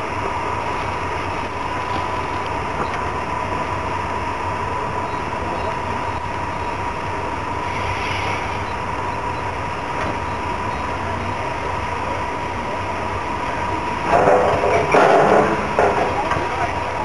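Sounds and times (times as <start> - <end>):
steam locomotive rumble and hiss: 0.0 - 17.0.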